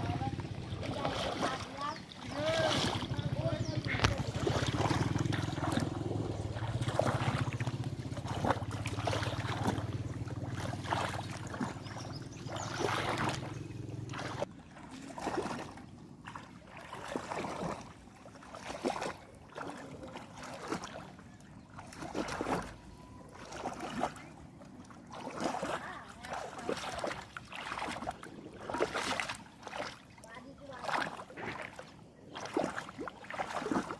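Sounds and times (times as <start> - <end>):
low motor hum: 0.0 - 33.9
shallow water splashing: 0.0 - 33.9.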